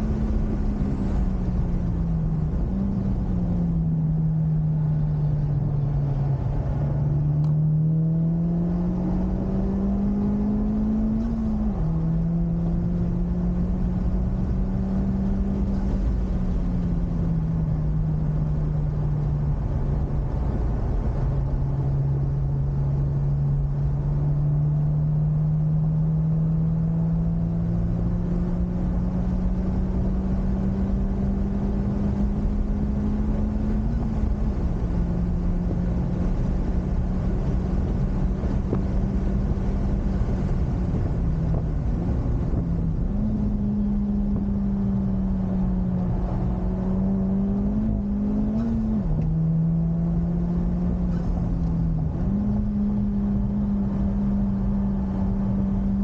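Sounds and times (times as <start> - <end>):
car engine under load: 0.0 - 56.0
road and wind noise: 0.0 - 56.0.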